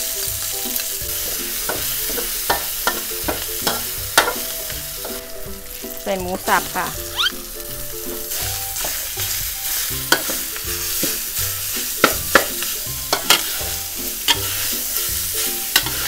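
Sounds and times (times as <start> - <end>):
meat sizzling in hot oil: 0.0 - 16.0
spatula clacking against wok: 0.2 - 6.0, 7.6 - 16.0
metal spatula scraping wok: 0.7 - 6.0, 6.6 - 16.0.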